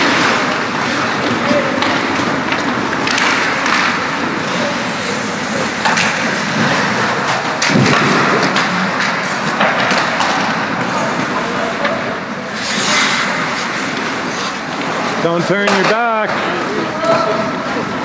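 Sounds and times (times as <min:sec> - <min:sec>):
hockey sticks clacking on puck: 0:00.0 - 0:18.0
skates scraping ice: 0:00.0 - 0:18.0.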